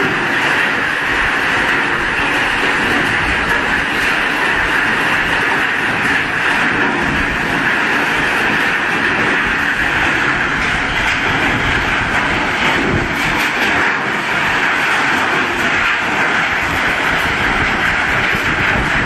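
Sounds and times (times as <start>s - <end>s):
scrap steel crusher running: 0.0s - 19.0s.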